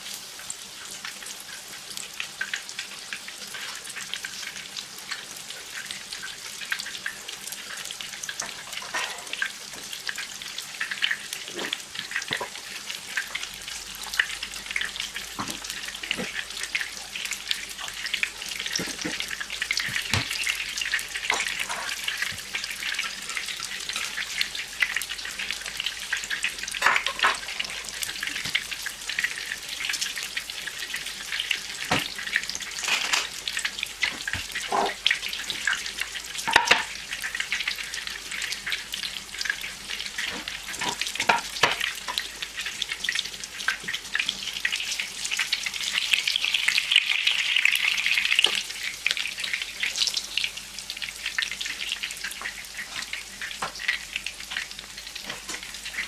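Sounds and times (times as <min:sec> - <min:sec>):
cutlet frying in hot oil: 0:00.0 - 0:56.0
oil popping and crackling: 0:00.8 - 0:56.0.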